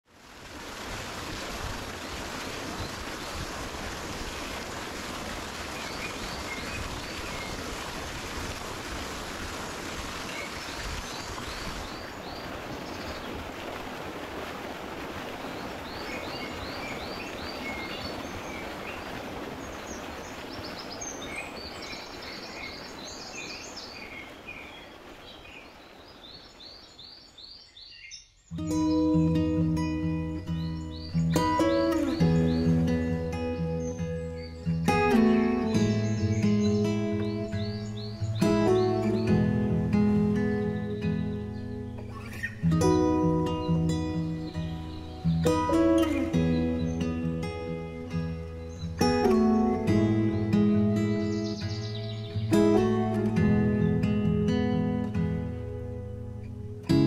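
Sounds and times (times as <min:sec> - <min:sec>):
birds chirping: 0:05.6 - 0:07.9, 0:10.2 - 0:14.0, 0:14.7 - 0:57.0.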